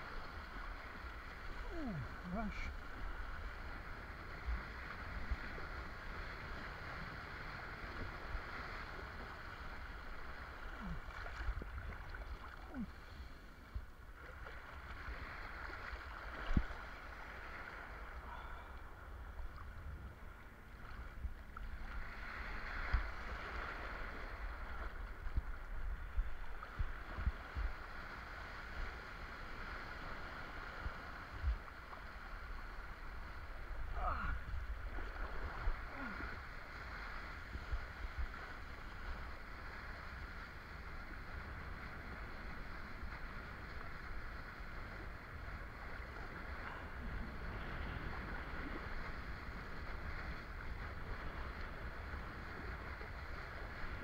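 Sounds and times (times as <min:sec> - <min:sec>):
rushing water and wind: 0:00.0 - 0:54.0.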